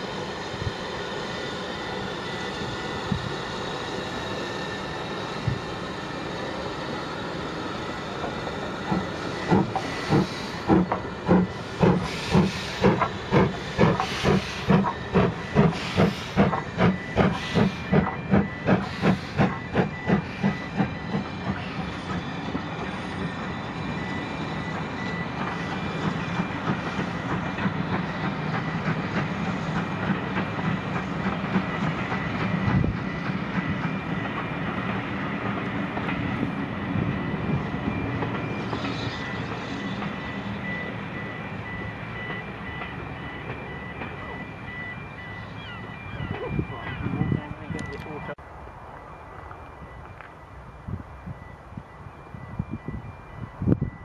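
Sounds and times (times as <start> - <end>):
coaches rolling on rails: 0.0 - 54.0
steam locomotive exhaust beats: 0.0 - 54.0.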